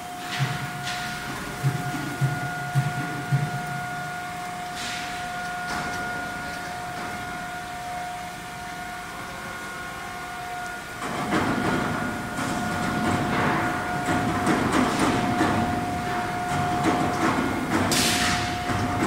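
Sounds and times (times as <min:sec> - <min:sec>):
furnace high whine: 0:00.0 - 0:19.0.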